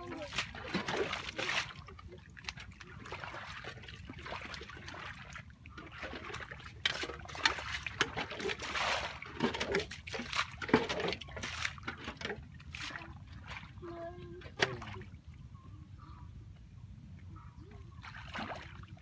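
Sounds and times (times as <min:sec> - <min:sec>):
mud and water splashing: 0:00.0 - 0:16.4, 0:17.3 - 0:19.0
trickling water: 0:00.0 - 0:16.6, 0:17.6 - 0:19.0.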